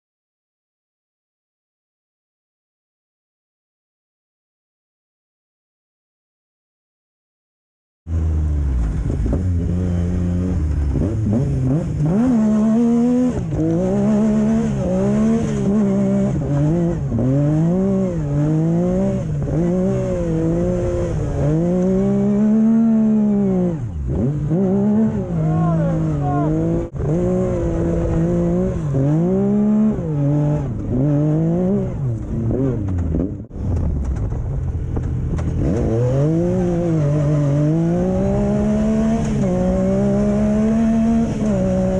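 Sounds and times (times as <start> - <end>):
vehicle engine revving: 8.1 - 41.9.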